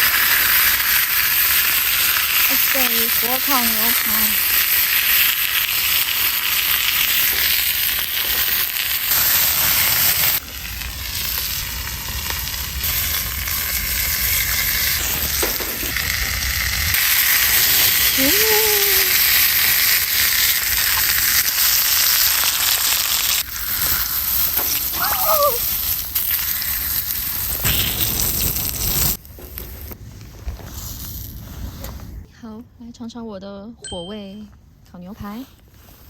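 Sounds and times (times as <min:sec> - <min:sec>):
steak sizzling on fire: 0:00.0 - 0:30.0, 0:30.7 - 0:31.8.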